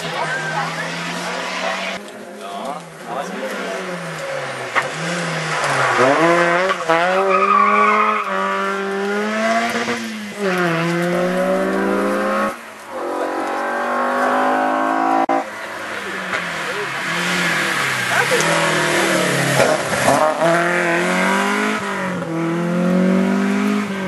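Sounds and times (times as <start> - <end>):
rally car engine revving: 2.8 - 24.0.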